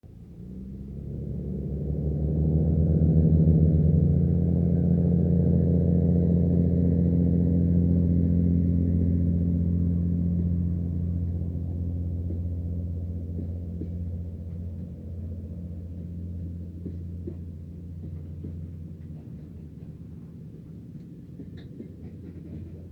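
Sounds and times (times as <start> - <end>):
train diesel engine passing: 0.2 - 22.9.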